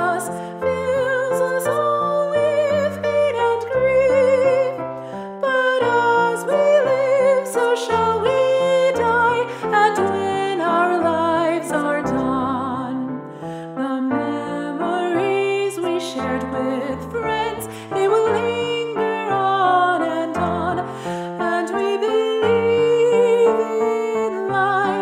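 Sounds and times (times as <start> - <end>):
person singing a hymn with vibrato: 0.0 - 4.8, 5.4 - 13.1, 13.8 - 25.0.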